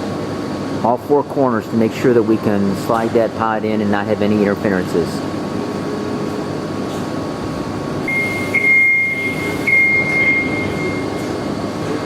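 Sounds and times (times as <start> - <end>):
high steady whine: 0.0 - 12.0.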